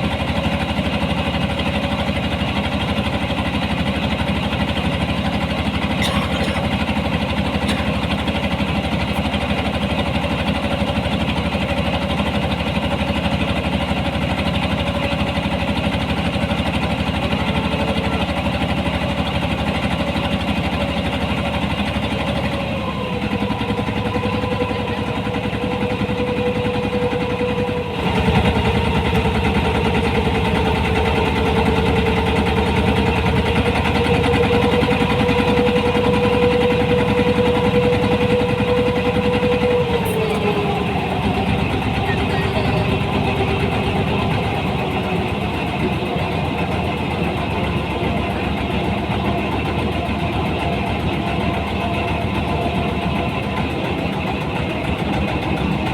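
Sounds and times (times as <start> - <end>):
harvesting machine engine running: 0.0 - 55.9.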